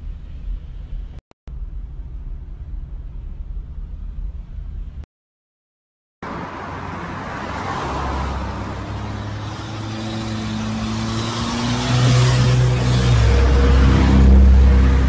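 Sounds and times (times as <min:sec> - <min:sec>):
road and wind noise: 0:00.0 - 0:05.0, 0:06.2 - 0:15.0.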